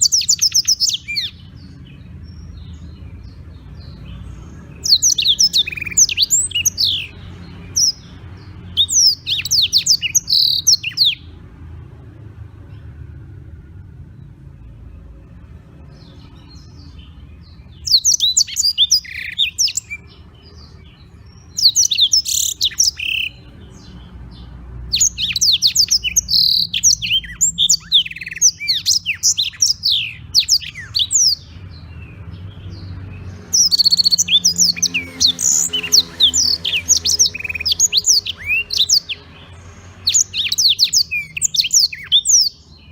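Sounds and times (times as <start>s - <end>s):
canary twittering song: 0.0s - 42.9s.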